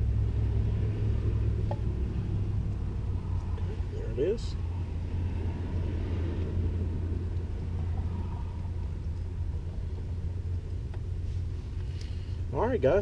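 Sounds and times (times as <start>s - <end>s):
machine humming and rumbling: 0.0s - 13.0s.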